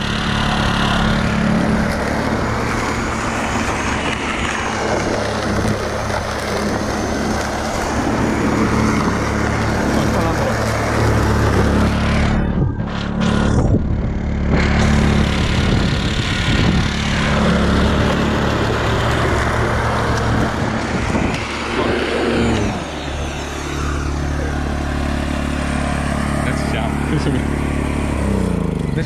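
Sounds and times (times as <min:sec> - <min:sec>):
lawn mower running: 0:00.0 - 0:29.0.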